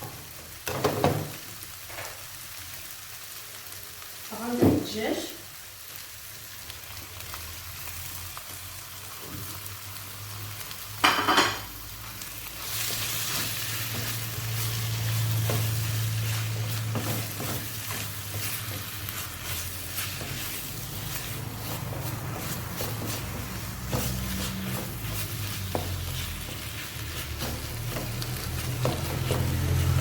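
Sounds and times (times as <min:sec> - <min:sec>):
filling sizzling in a frying pan: 0:00.0 - 0:30.0.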